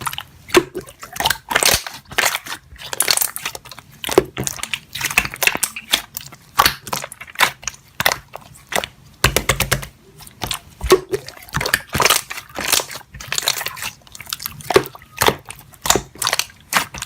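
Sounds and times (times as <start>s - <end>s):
slime squishing and popping: 0.0s - 17.0s.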